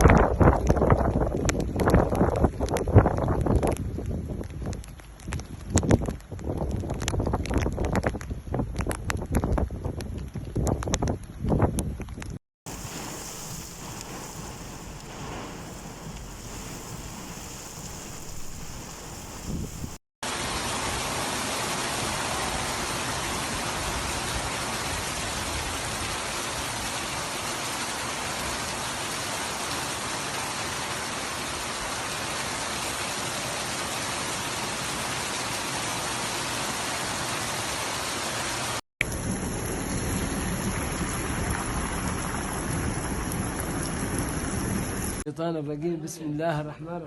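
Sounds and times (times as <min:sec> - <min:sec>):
rain falling steadily: 0:00.0 - 0:45.2.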